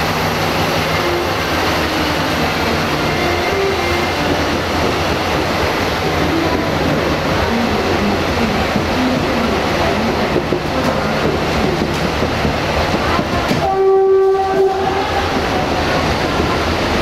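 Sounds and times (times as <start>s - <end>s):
train rumble with wheel clatter: 0.0s - 17.0s.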